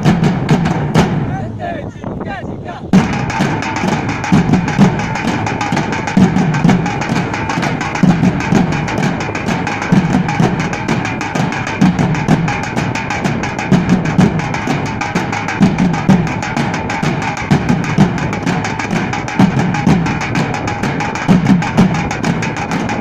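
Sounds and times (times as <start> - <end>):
metal-shelled drums beaten fast: 0.0 - 2.2, 2.8 - 23.0
deep accented drum beats: 0.0 - 23.0.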